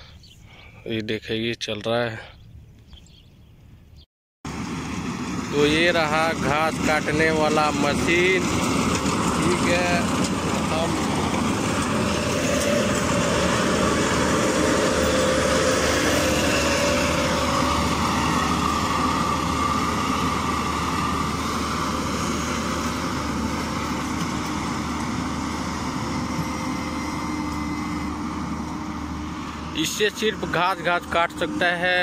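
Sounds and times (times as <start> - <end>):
windrower engine and cutter drone: 4.5 - 32.0.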